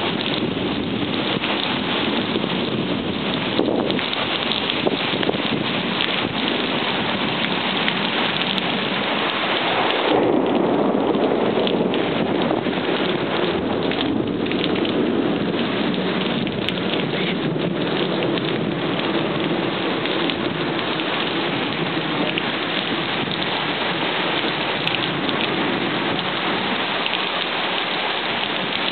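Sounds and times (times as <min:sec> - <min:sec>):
heavy rain falling: 0:00.0 - 0:28.9
rumbling thunder: 0:00.0 - 0:28.9.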